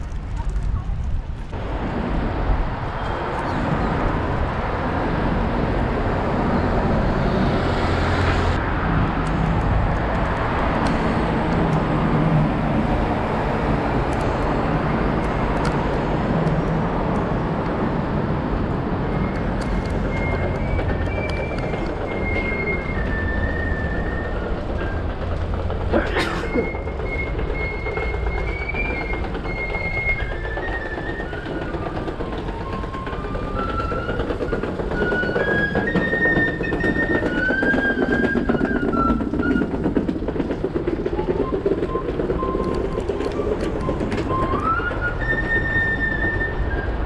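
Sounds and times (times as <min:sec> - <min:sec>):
rushing wind and road noise: 0:00.0 - 0:47.0.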